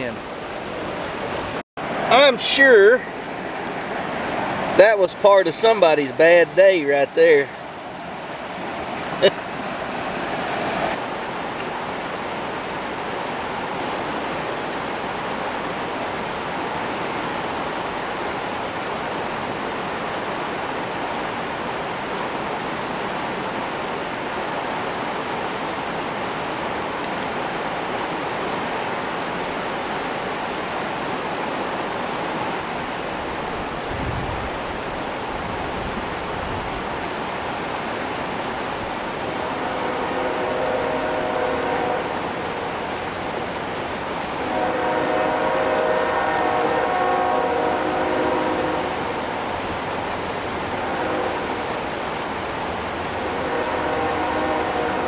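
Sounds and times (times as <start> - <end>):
fast-flowing river water: 0.0 - 55.0.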